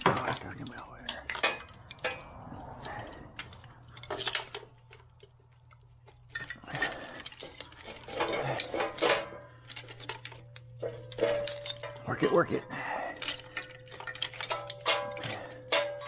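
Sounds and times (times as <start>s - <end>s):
wiring harness clicking and rattling: 0.0s - 16.0s.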